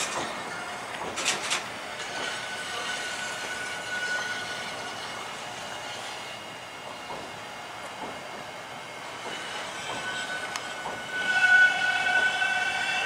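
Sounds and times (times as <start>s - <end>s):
high squeal of train wheels: 0.0s - 7.4s, 8.9s - 13.0s
train rumble: 0.0s - 13.0s
train wheels clacking: 0.0s - 13.0s.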